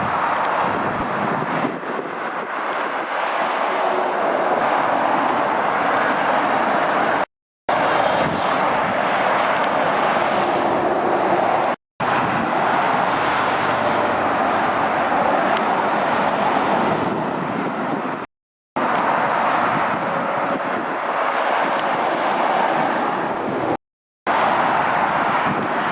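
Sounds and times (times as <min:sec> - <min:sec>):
traffic passing on highway: 0:00.0 - 0:25.9.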